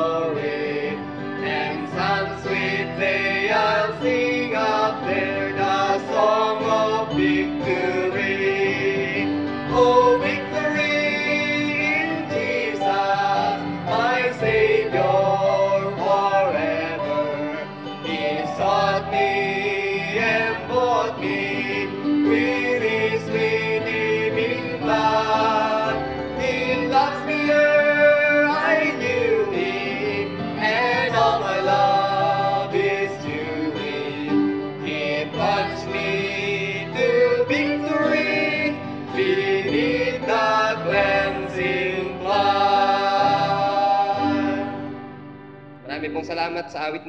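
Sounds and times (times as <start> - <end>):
man leading singing: 0.0 - 45.0
group singing a hymn: 0.0 - 45.3
acoustic guitar: 0.0 - 46.2
keyboard: 0.0 - 47.0
piano: 0.0 - 47.0.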